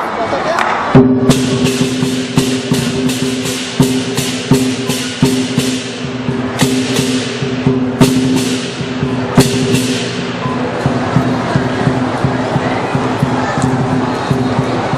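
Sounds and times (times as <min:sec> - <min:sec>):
drum beating: 0:00.6 - 0:14.9
cymbals clashing: 0:01.0 - 0:14.9.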